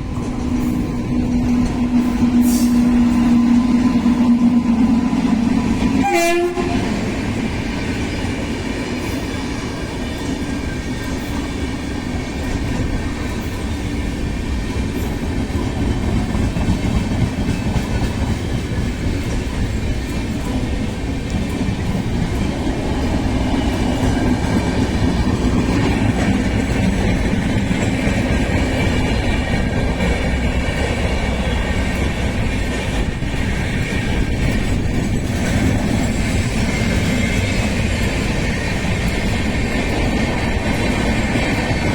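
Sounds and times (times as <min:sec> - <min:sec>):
train passing with rushing rumble: 0:00.0 - 0:41.9
wheels clattering over rail joints: 0:07.0 - 0:41.9.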